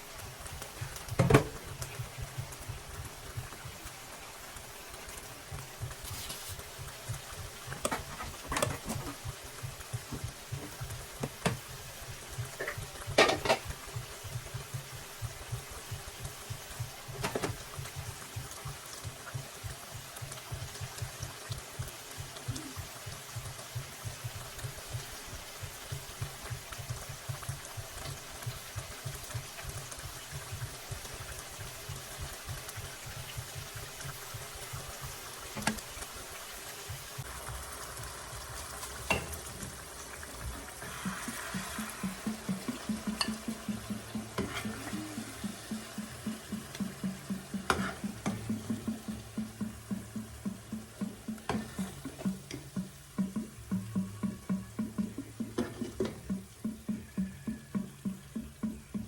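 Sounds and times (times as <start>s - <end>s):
food bubbling and sizzling: 0.0s - 59.0s.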